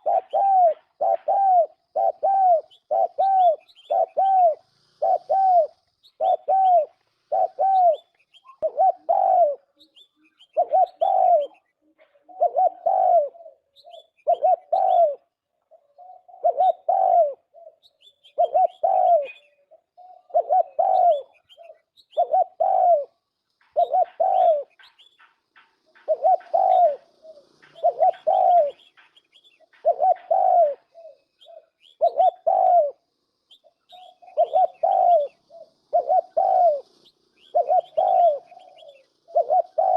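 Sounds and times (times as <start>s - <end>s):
dove cooing: 0.0s - 39.9s
faint high bird chirps: 0.0s - 39.9s.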